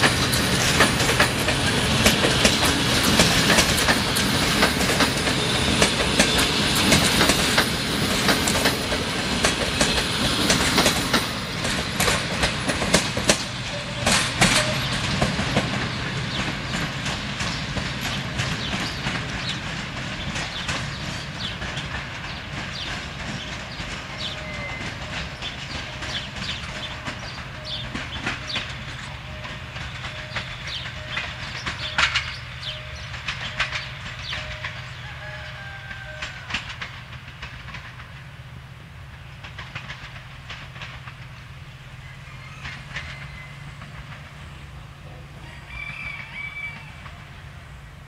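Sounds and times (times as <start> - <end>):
train wheels clattering: 0.0 - 47.8.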